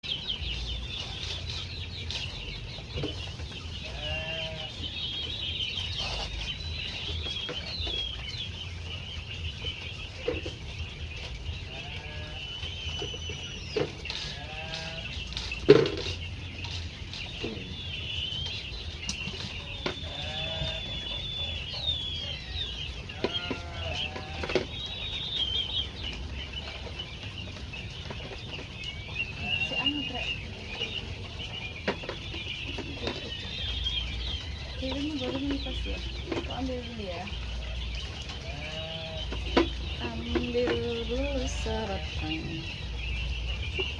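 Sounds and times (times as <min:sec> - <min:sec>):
quail chirping: 0:00.0 - 0:43.9.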